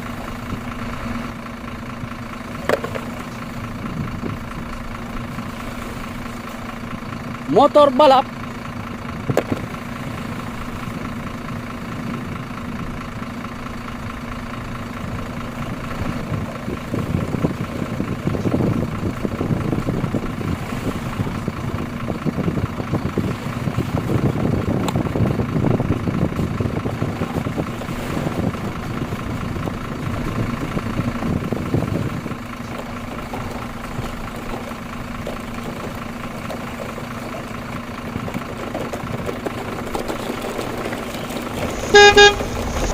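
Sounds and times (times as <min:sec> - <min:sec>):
engine idling hum: 0:00.0 - 0:42.9.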